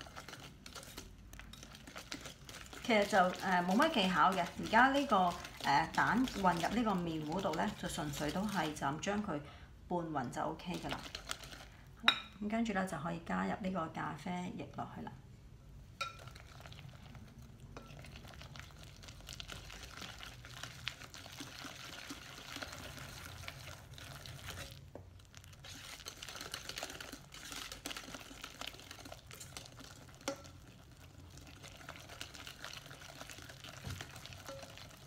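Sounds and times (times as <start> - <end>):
whisk swishing in batter: 0.0 - 9.0, 10.6 - 11.7, 16.2 - 35.0.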